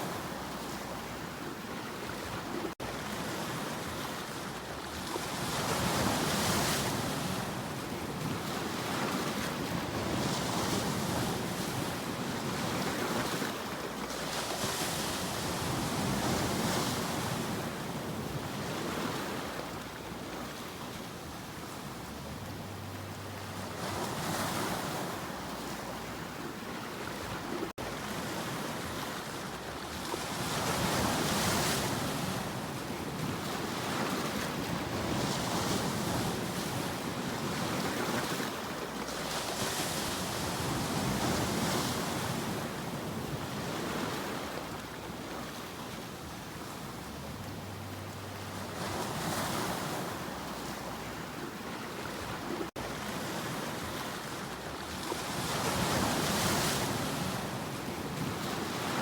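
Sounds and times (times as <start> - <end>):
sea waves breaking: 0.0 - 59.0.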